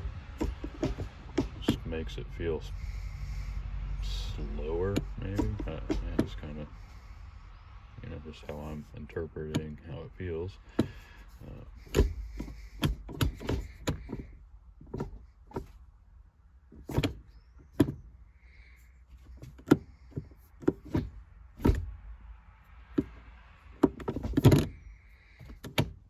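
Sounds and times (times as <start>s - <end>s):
gear lever clicks and clunks: 0.0s - 7.3s, 8.0s - 10.0s, 10.6s - 15.9s, 16.7s - 26.0s.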